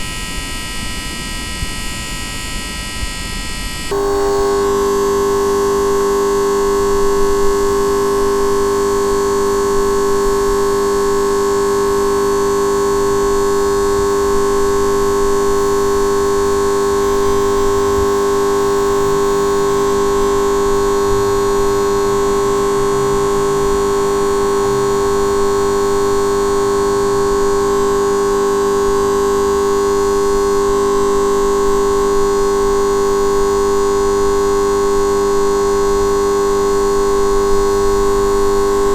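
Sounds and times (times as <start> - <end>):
traffic light electric buzz: 0.0 - 38.9.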